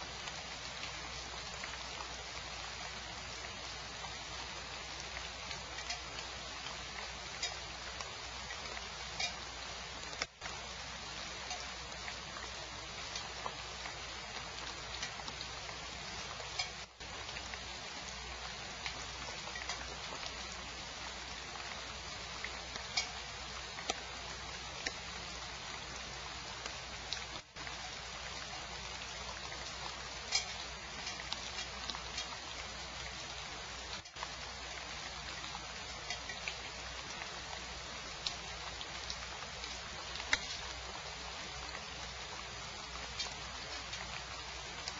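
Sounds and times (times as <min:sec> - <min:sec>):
raindrops ticking near microphone: 0:00.0 - 0:44.9
steady rain hiss: 0:00.0 - 0:44.9.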